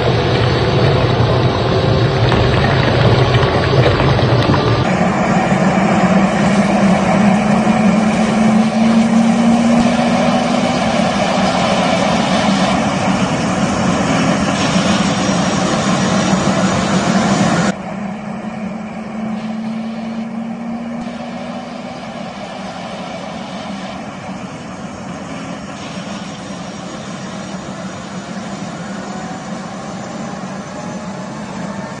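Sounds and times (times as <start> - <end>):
jet engine running: 0.0 - 32.0.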